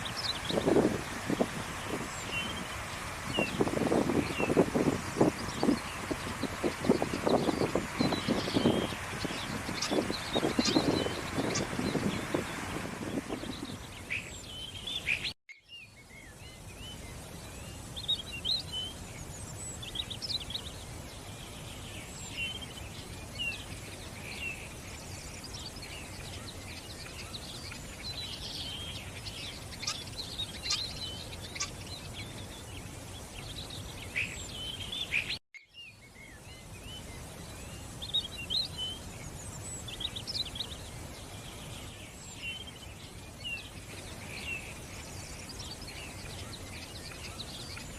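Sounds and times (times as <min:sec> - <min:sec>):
birds chirping: 0:00.0 - 0:47.9
steady background hiss: 0:00.0 - 0:47.9.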